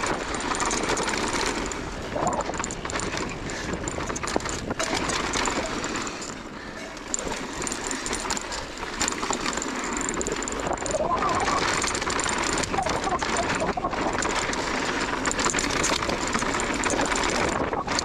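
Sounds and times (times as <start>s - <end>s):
bike chain and frame rattling: 0.0s - 18.0s
tyres rolling over dirt and stones: 0.0s - 18.0s.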